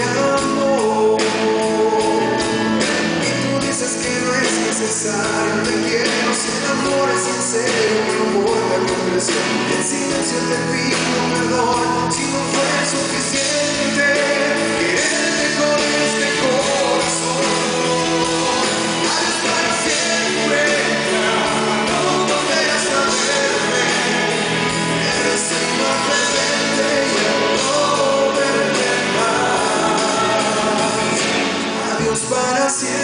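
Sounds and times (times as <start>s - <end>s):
live band music with singing: 0.0s - 33.0s.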